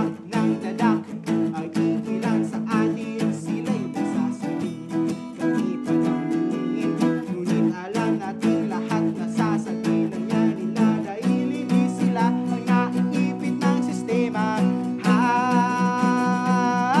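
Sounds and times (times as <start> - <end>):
acoustic guitars strummed and picked: 0.0 - 17.0
man singing: 0.0 - 17.0.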